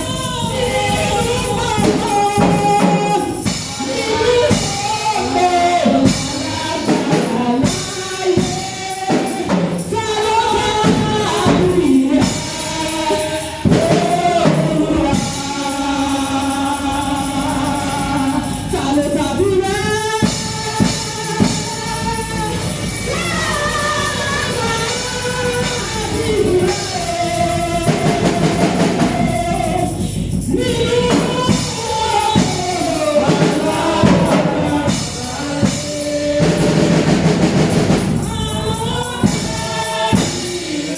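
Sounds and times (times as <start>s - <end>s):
drum kit: 0.0s - 40.9s
gospel singing voices: 0.0s - 40.9s.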